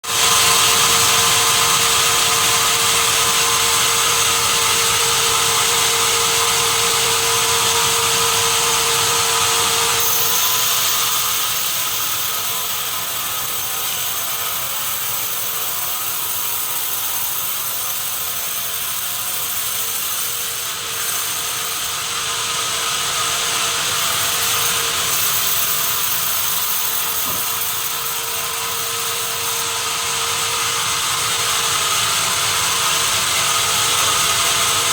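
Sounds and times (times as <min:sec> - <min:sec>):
sawmill saw whining: 0:00.0 - 0:34.9.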